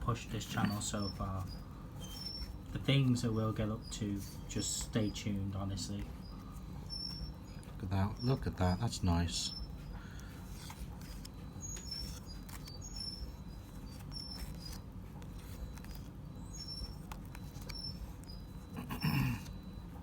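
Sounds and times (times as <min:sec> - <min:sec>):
trading cards rustling and clicking: 0:00.2 - 0:19.7.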